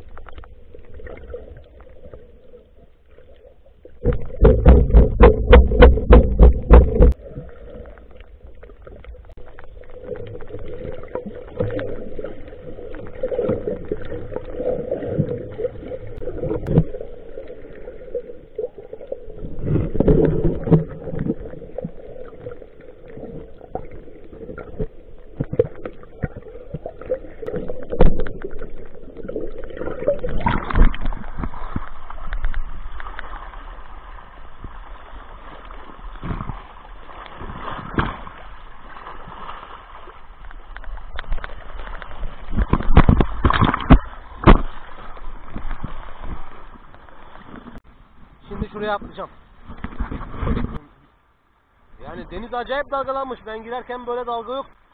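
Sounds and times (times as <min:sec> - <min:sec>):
muffled water sloshing: 0:00.0 - 0:48.5.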